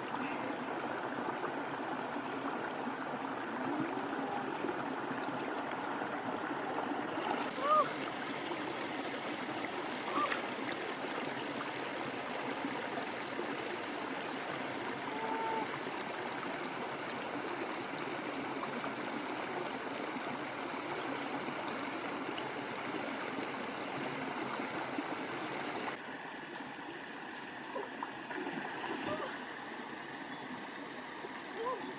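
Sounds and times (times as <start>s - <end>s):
stream flowing over rocks: 0.0s - 31.9s.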